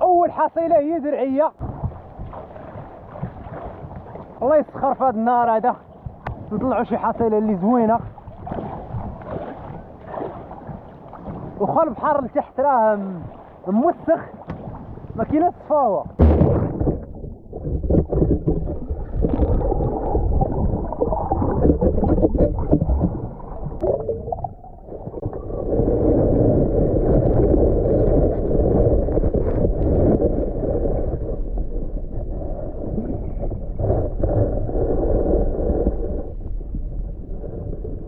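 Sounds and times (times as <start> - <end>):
muffled underwater water sloshing: 0.5 - 38.0.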